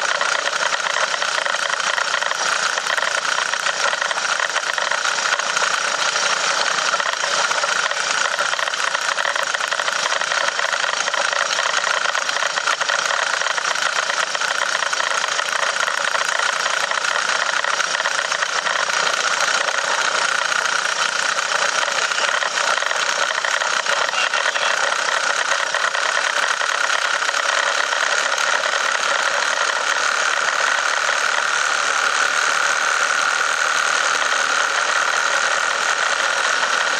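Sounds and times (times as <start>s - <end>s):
car engine running under load: 0.0s - 36.9s.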